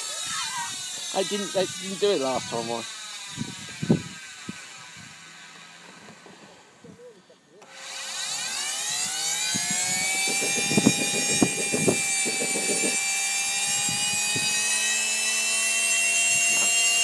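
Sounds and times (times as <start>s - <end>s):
turbine engine whine: 0.0s - 17.0s.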